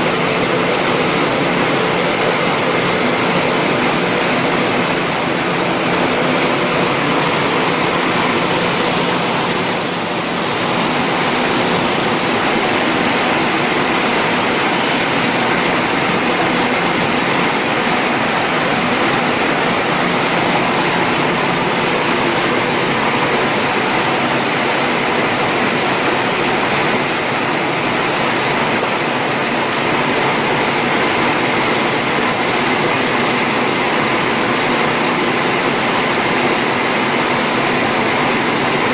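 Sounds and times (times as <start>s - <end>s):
envelope machine running: 0.0s - 38.9s.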